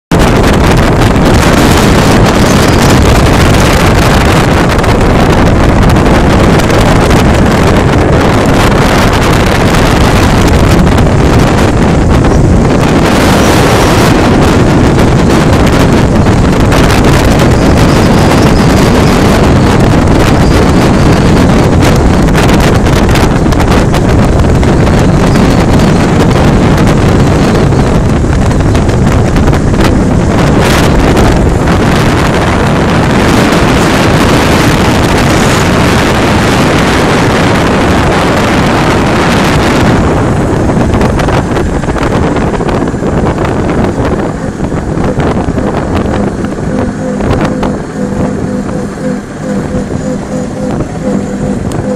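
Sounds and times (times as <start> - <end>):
wind buffeting microphone: 0.0 - 51.9
car engine running: 0.1 - 51.9.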